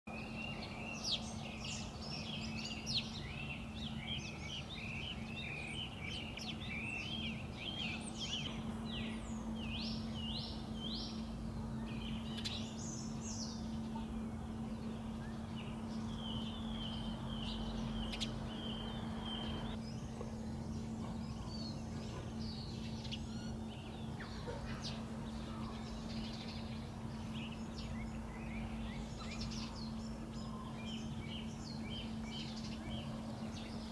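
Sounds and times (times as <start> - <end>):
songbirds chirping and singing: 0.1 - 33.9
steady low hum: 0.1 - 33.9.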